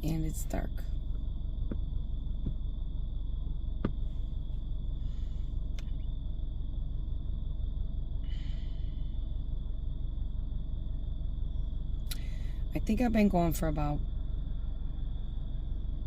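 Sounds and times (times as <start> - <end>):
low rumble inside car: 0.0 - 16.0.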